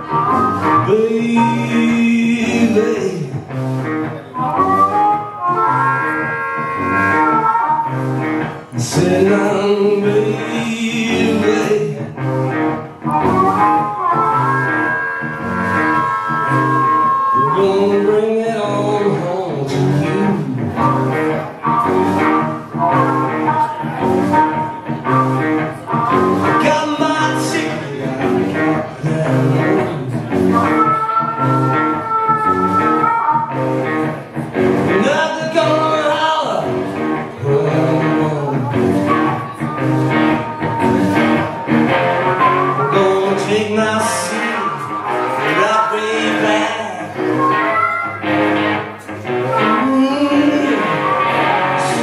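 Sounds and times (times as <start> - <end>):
held lead guitar note: 0.0 - 52.0
rock band playing: 0.0 - 52.0.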